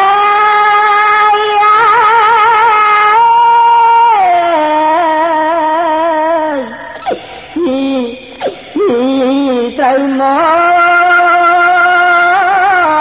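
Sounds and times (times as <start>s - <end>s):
person chanting with vibrato: 0.0s - 13.0s.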